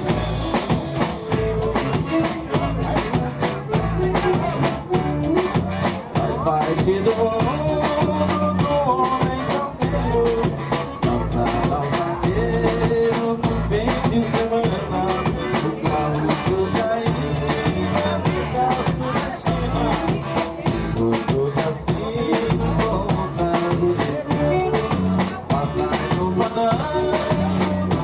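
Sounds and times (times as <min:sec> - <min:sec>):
bass: 0:00.0 - 0:28.0
button accordion melody: 0:00.0 - 0:28.0
drum kit dance beat: 0:00.0 - 0:28.0.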